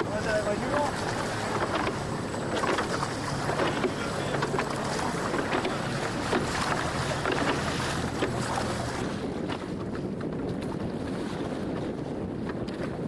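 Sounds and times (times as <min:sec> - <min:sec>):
water splashing against boat hull: 0:00.0 - 0:13.0
wind on microphone: 0:00.0 - 0:13.0.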